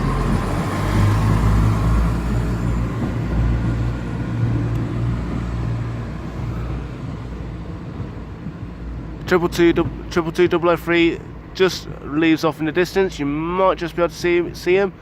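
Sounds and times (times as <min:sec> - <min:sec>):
diesel train engines droning: 0:00.0 - 0:15.0.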